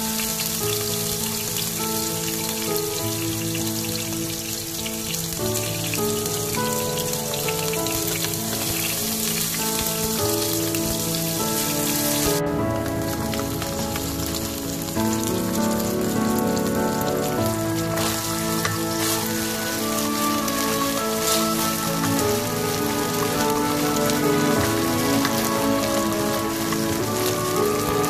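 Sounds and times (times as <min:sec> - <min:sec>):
background music of held notes: 0:00.0 - 0:28.0
garlic sizzling in a wok: 0:00.0 - 0:28.0.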